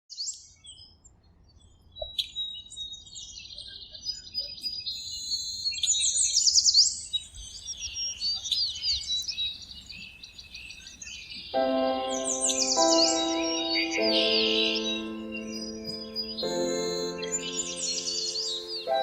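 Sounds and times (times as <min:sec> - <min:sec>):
songbirds chirping and trilling: 0:00.2 - 0:19.0.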